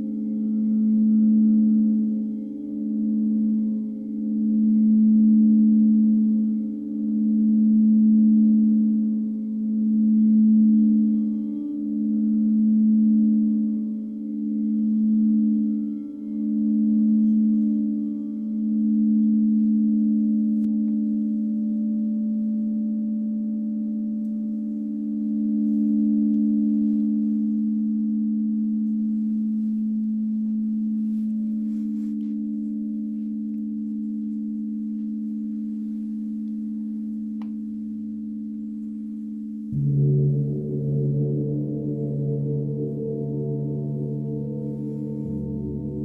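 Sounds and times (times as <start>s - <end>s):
singing bowls ringing: 0.0s - 46.0s.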